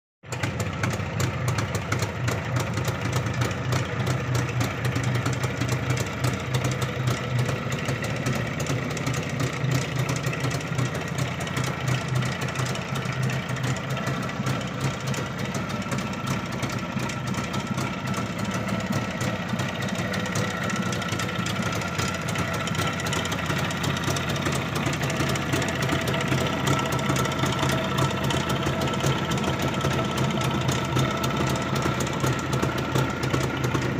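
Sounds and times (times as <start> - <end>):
motorcycle engine idling: 0.3 - 33.9.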